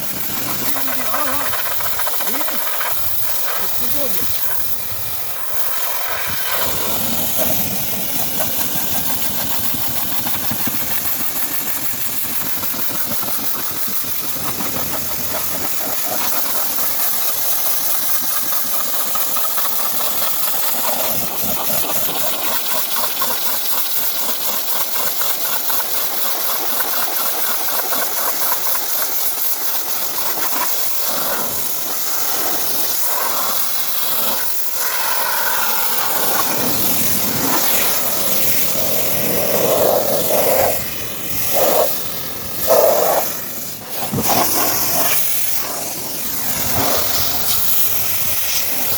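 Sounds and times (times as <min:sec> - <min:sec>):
motor running: 0:00.0 - 0:23.6, 0:24.9 - 0:48.9
pressure washer hissing spray: 0:00.0 - 0:48.9.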